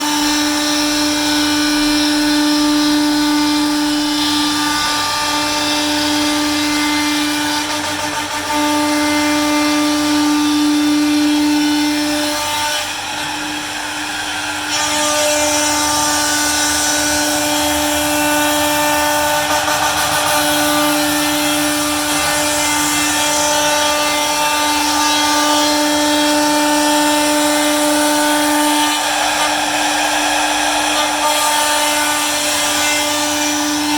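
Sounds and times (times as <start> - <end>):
rasping cutting noise: 0.0 - 33.9
router spindle high whine: 0.0 - 33.9.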